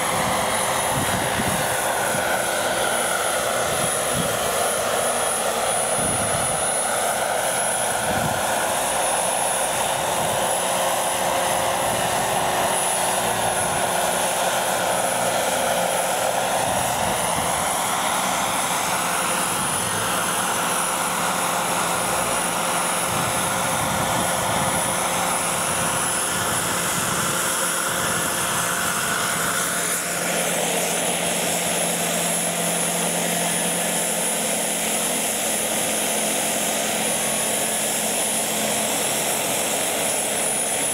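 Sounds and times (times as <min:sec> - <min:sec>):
model helicopter engine and rotor: 0:00.0 - 0:40.9.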